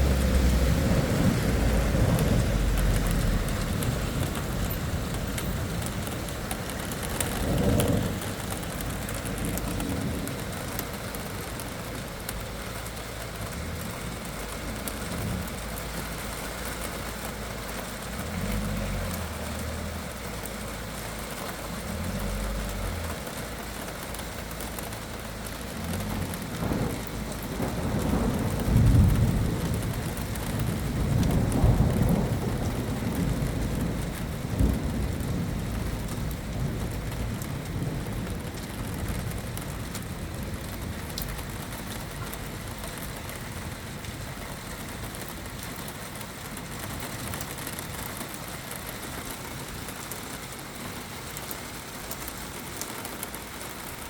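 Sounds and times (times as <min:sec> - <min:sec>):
thunder rumbling: 0:00.0 - 0:45.6
steady rain falling: 0:00.0 - 0:54.0.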